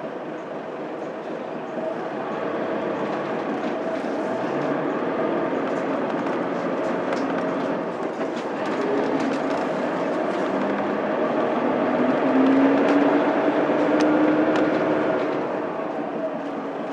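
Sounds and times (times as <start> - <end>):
bus diesel engine drone: 0.0 - 16.9
road noise: 0.0 - 16.9.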